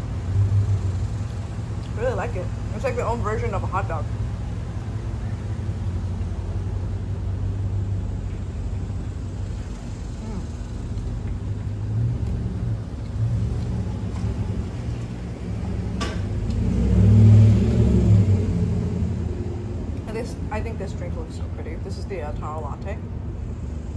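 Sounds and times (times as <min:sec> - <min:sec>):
low outdoor rumble: 0:00.0 - 0:23.9.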